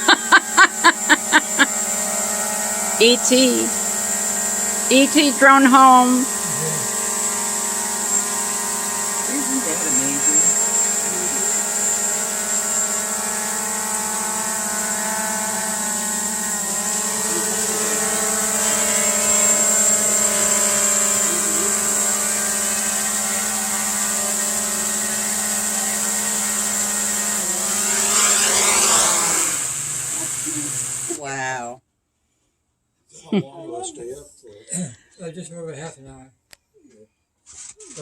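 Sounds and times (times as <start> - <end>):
drone propellers whining: 0.0 - 31.2.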